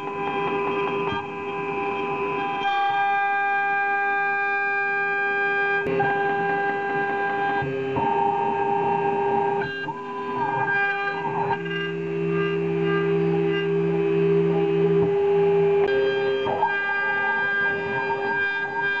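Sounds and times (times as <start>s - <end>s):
router spindle whine: 0.0s - 19.0s.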